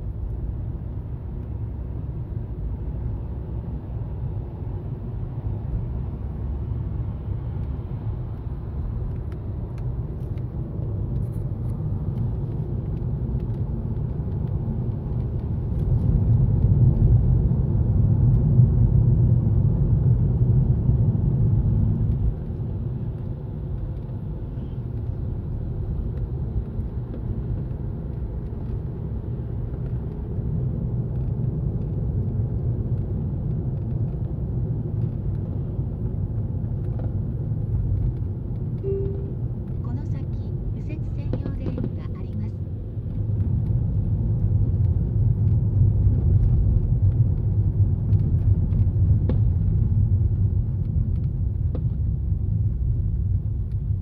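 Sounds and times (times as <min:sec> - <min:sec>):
minivan driving rumble: 0:00.0 - 0:54.0.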